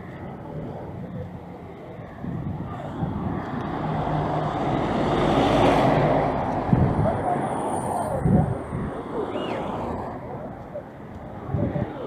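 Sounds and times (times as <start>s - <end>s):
street voices: 0.0s - 12.0s
vehicle engine and tyre noise: 0.0s - 12.0s.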